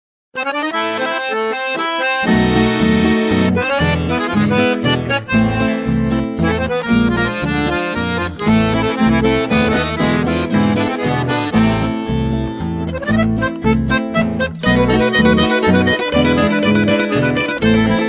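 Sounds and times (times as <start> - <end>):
accordion melody: 0.4 - 18.0
deep rhythmic accompaniment: 0.4 - 18.0.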